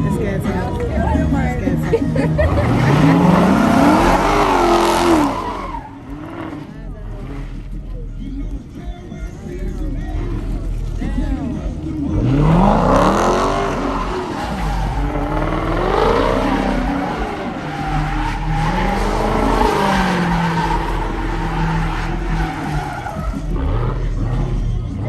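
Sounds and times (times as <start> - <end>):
tyres squealing: 0.0 - 24.7
car engine revving: 0.0 - 25.0.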